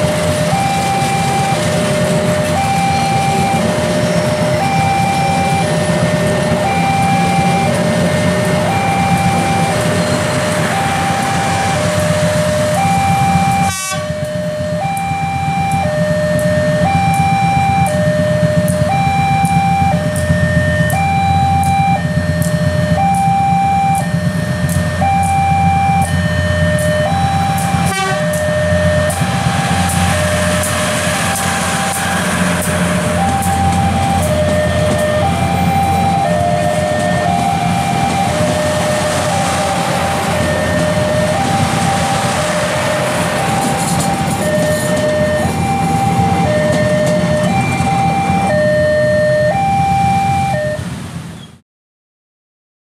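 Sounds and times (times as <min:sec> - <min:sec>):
level crossing two-tone alarm: 0:00.0 - 0:50.9
passenger train rumbling past: 0:00.0 - 0:51.5.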